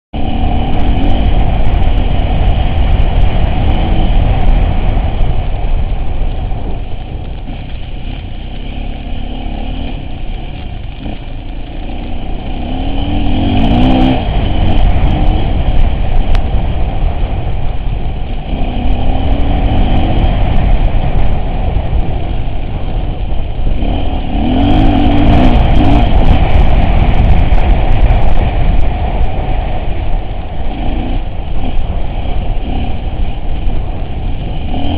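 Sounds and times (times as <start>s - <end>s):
vehicle engine revving off-road: 0.1s - 34.9s.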